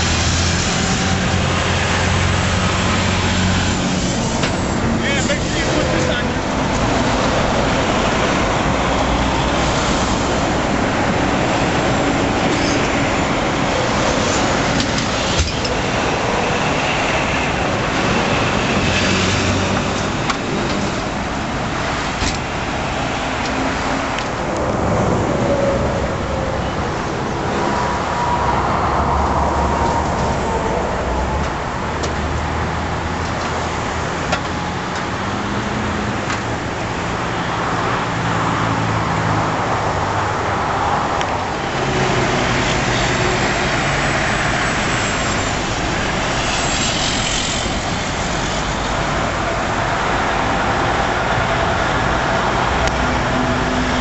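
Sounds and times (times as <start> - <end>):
highway traffic noise: 0.0 - 54.0.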